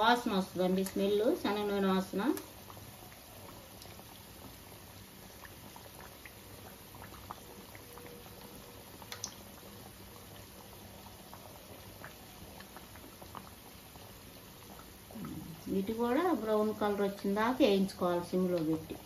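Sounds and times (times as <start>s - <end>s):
dough sizzling in oil: 0.0s - 19.0s.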